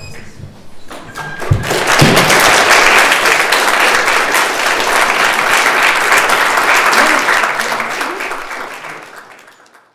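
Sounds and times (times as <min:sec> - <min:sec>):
audience applauding: 0:01.5 - 0:09.9.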